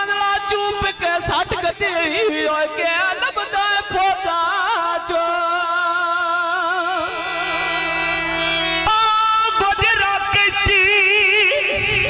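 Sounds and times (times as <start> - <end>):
man singing into microphone: 0.0 - 7.9, 8.8 - 12.0.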